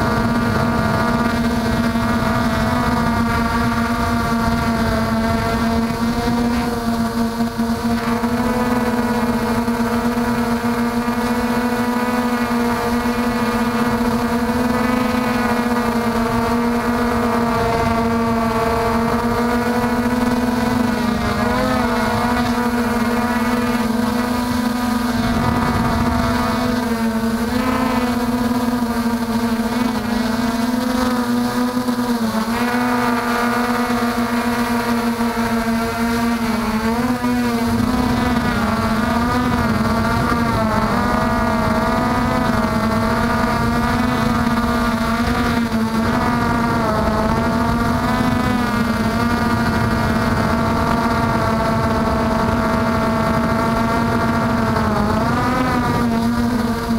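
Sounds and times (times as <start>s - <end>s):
quadcopter motors whining: 0.0s - 56.9s.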